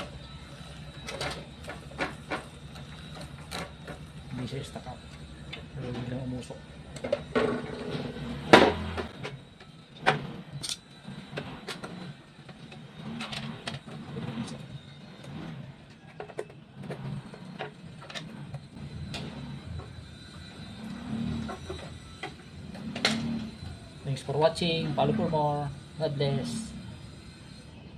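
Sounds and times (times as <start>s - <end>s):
parts clicking and knocking: 0.0s - 23.9s.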